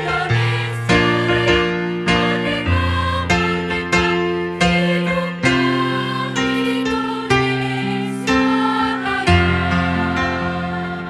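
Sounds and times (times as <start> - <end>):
women's choir singing: 0.0 - 11.0.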